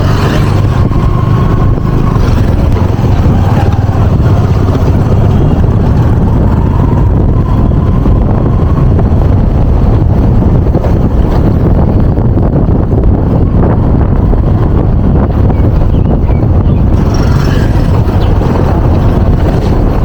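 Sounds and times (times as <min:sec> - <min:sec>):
vehicle low rumble: 0:00.0 - 0:20.0
wind buffeting microphone: 0:00.0 - 0:20.0.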